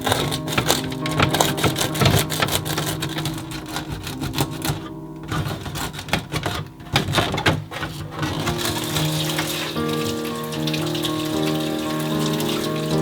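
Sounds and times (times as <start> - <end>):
containers clicking and clattering: 0.0 - 13.0.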